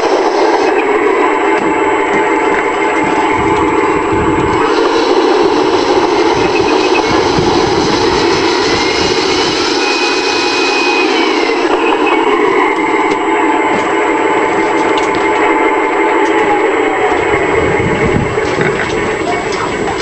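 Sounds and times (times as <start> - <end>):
thin whines: 0.0 - 20.0.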